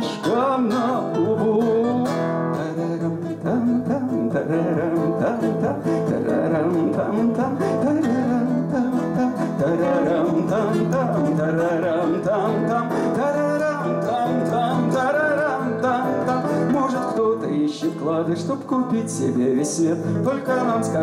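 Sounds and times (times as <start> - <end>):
acoustic guitar lead melody: 0.0 - 21.0
acoustic guitar strumming chords: 0.0 - 21.0.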